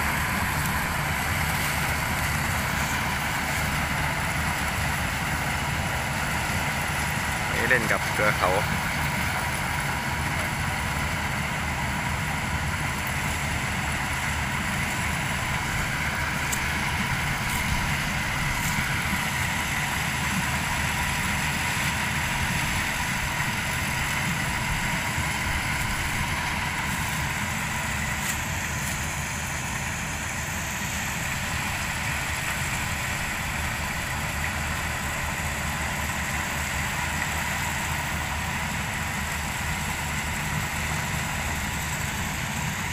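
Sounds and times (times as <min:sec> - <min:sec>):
high machine whine: 0:00.0 - 0:35.6
combine harvester engine drone: 0:00.0 - 0:42.9.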